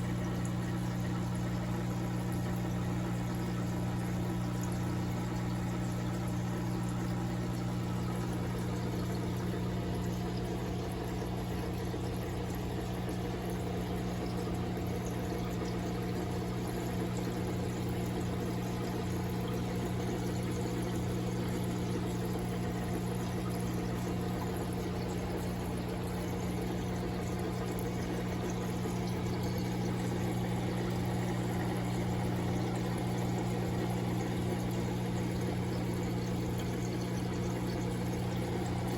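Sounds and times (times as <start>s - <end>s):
pump electrical hum: 0.0s - 38.9s
water pouring into aquarium: 0.0s - 38.9s.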